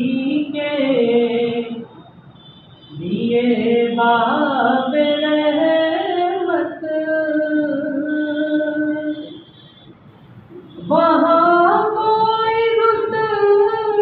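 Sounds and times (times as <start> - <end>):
person singing unaccompanied: 0.0 - 1.9, 2.9 - 9.3, 10.8 - 14.0.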